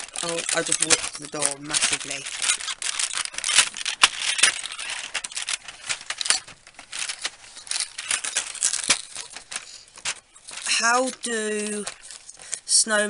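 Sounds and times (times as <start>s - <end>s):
cardboard packaging crinkling: 0.0s - 13.0s.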